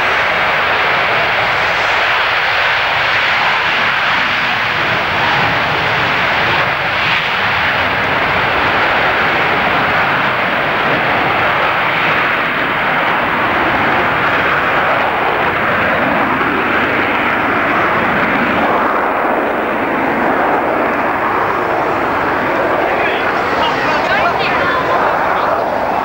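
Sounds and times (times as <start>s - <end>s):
loud jet engine noise: 0.0s - 26.0s.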